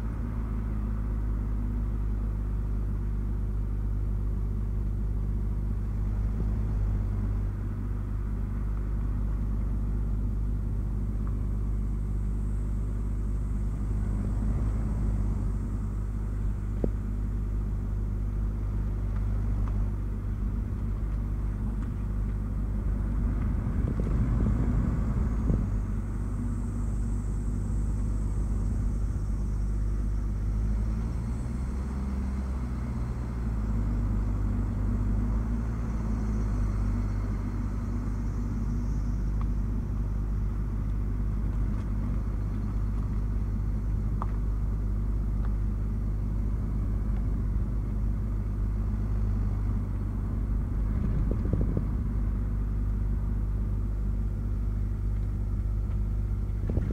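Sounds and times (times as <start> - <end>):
car drivetrain and road noise: 0.0 - 56.9
faint high whine: 0.0 - 56.9.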